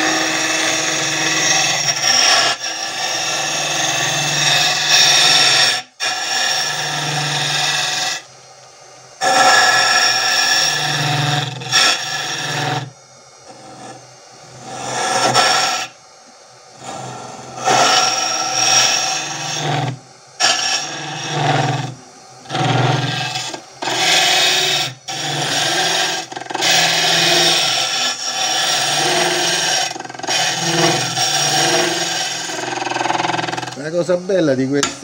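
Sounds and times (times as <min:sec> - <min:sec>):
tool rasping scraping cut: 0:00.0 - 0:08.2, 0:09.2 - 0:16.0, 0:16.8 - 0:35.0
wood lathe spinning: 0:00.0 - 0:08.3, 0:09.2 - 0:16.0, 0:16.8 - 0:35.0.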